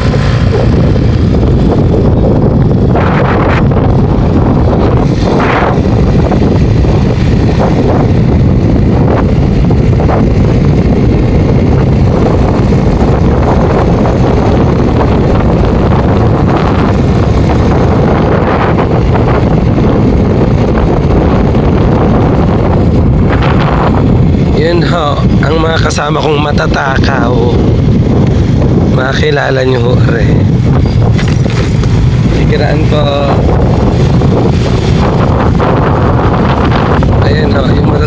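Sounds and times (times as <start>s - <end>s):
vehicle road noise: 0.0s - 38.0s
wind buffeting microphone: 0.0s - 38.0s.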